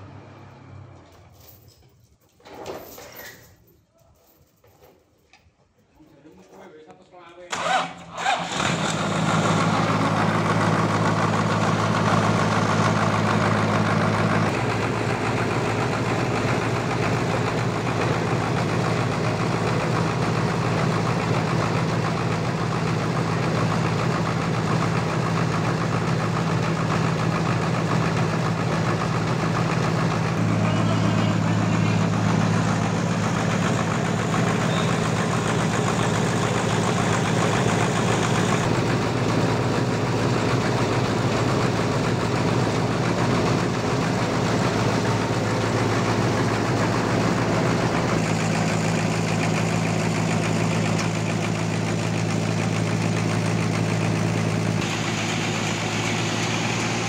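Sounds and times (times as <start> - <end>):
sawmill engine running: 7.5 - 57.0.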